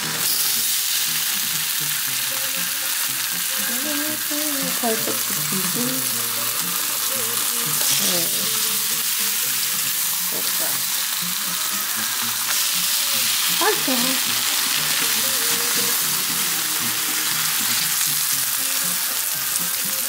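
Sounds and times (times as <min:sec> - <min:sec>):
ham sizzling on a griddle: 0:00.0 - 0:20.0.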